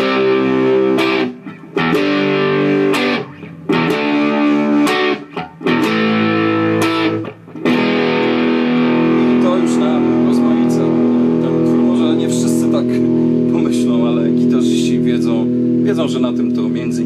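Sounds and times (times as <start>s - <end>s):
electric guitar blues riff: 0.0s - 17.0s.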